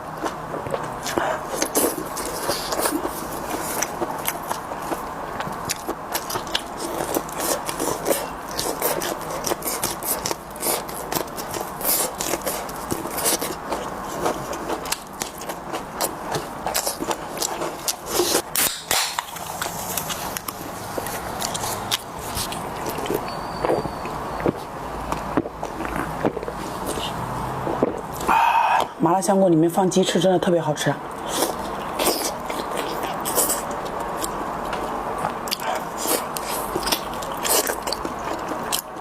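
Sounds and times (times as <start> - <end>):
eating sounds: 0.0 - 29.0, 31.1 - 39.0.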